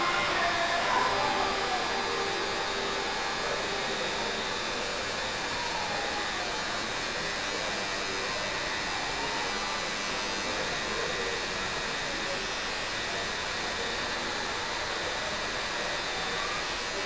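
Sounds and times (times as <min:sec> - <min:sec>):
tattoo machine buzzing: 0:00.0 - 0:17.0.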